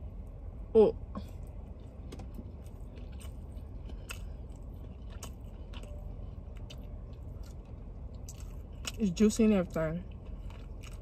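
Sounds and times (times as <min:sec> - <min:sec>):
steady low rumble: 0:00.0 - 0:11.0
person chewing crunchy food: 0:01.2 - 0:11.0.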